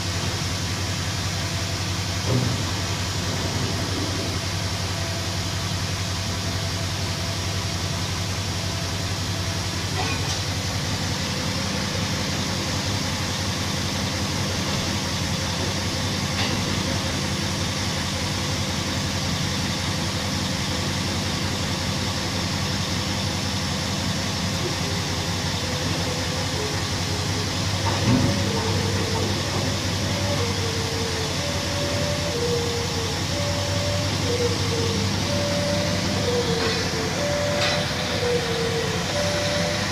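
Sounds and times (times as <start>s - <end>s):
heavy mining machinery droning: 0.0s - 39.9s.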